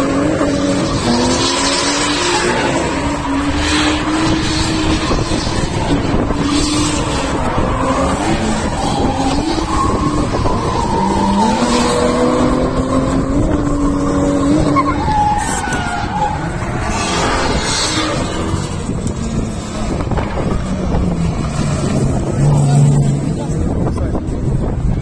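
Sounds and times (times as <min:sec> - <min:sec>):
car engine revving high: 0:00.0 - 0:24.7.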